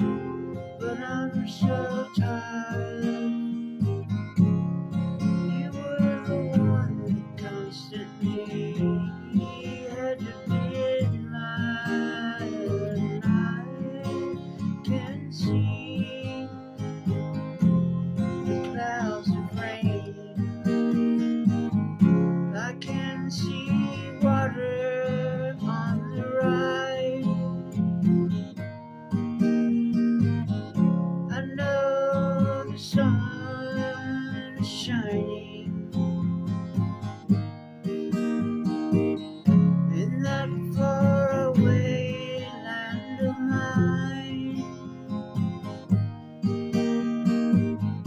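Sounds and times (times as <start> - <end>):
acoustic guitar strumming: 0.0 - 48.0.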